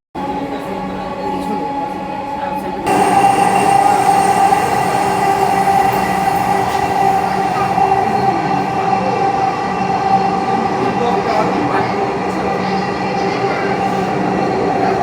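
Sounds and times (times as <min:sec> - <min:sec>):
metro train whine: 0:00.2 - 0:15.0
train wheels rolling on rails: 0:02.9 - 0:15.0.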